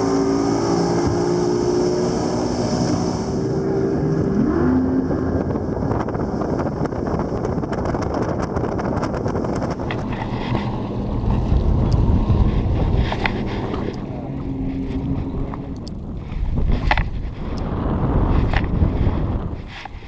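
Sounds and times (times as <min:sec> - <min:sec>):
motorboat engine: 0:00.0 - 0:20.0
wind buffeting microphone: 0:00.0 - 0:20.0.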